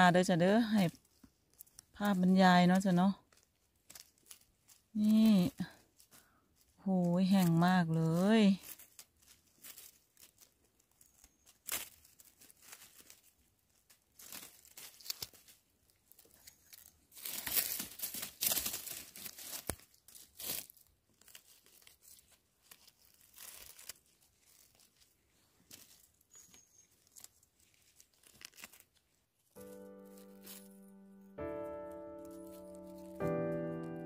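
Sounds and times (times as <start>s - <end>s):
leaves and twigs crackling: 0.0s - 34.0s.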